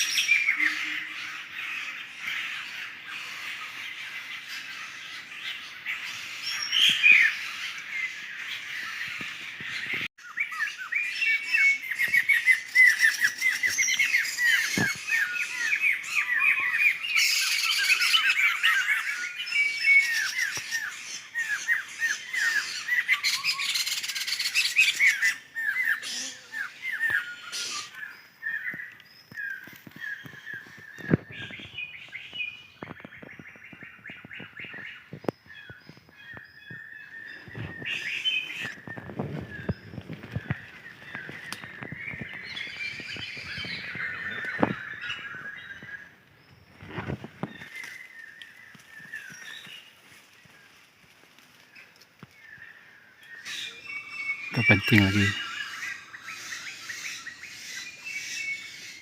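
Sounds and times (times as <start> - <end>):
birds chattering calls: 0.0 - 59.0.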